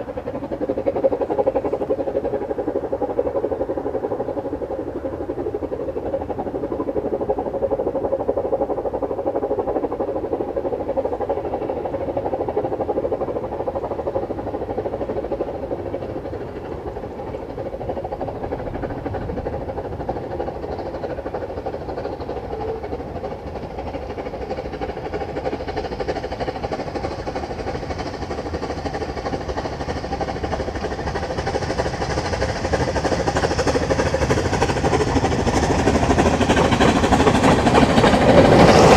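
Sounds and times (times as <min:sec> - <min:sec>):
train rumbling on tracks: 0:00.0 - 0:38.9.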